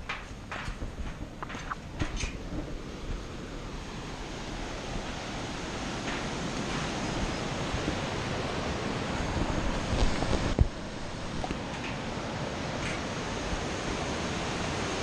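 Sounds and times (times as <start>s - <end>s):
wind buffeting microphone: 0.0s - 15.0s
fast river rushing: 1.5s - 15.0s.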